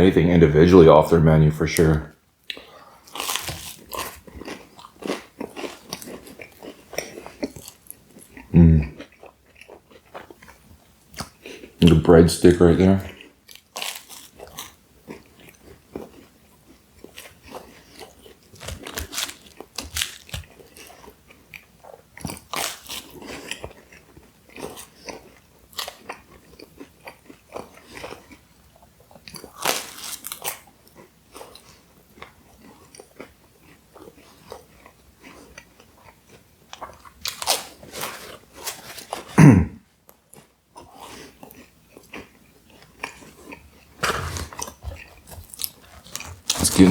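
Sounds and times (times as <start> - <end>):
person biting and chewing breadstick: 1.8 - 12.0, 13.1 - 39.4, 40.1 - 46.9.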